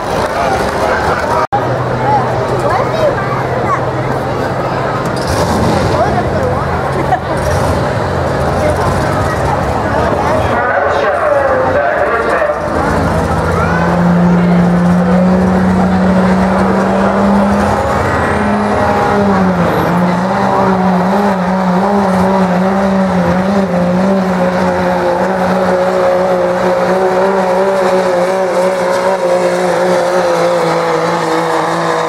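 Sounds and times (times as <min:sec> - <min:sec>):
diesel engine at high revs: 0:00.0 - 0:32.0.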